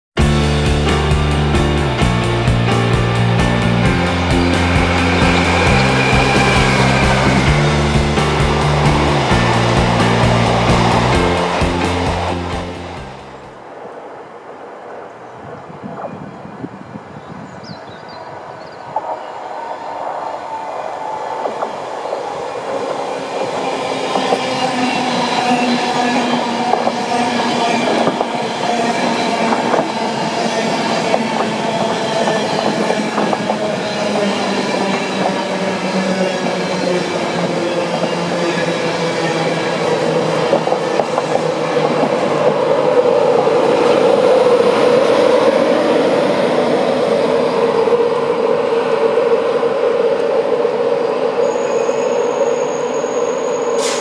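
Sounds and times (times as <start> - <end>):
train wheels rumbling on track: 0.2 - 13.7, 18.3 - 54.0
electric train whine: 0.2 - 54.0.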